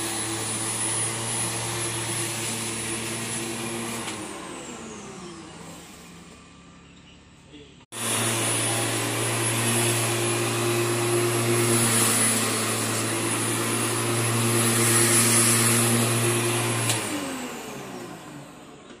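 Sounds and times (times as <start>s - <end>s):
electric lawn mower running: 0.0s - 6.8s, 8.0s - 18.9s.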